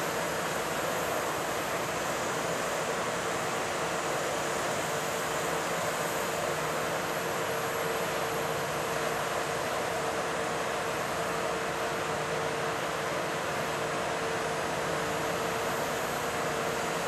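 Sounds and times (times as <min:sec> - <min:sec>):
faint steady whine: 0:00.0 - 0:17.0.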